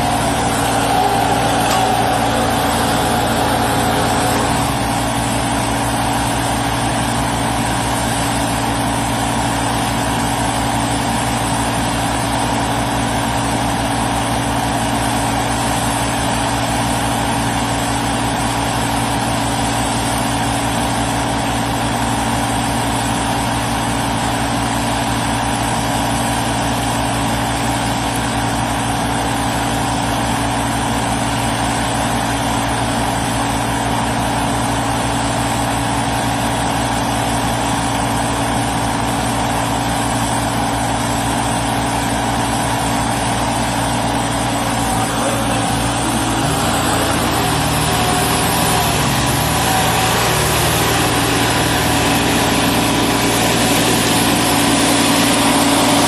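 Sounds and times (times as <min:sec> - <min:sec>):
loader engine running: 0:00.0 - 0:56.0.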